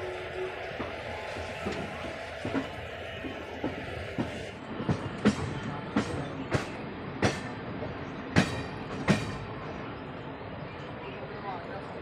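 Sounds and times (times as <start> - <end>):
train wheels clattering over rails: 0.0 - 9.8.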